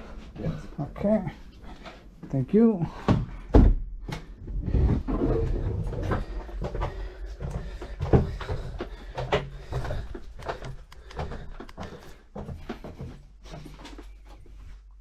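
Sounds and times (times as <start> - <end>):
footsteps going down stairs: 0.0 - 15.0.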